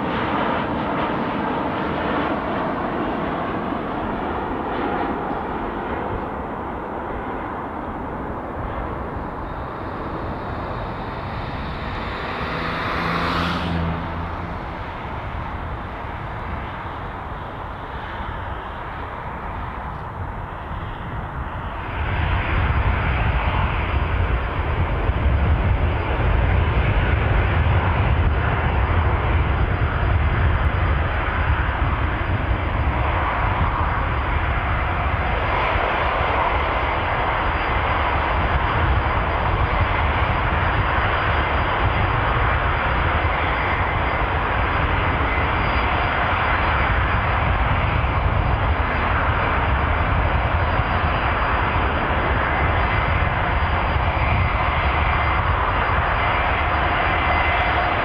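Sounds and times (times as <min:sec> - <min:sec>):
jet engines running: 0:00.0 - 0:58.0
faint high whine: 0:08.2 - 0:58.0.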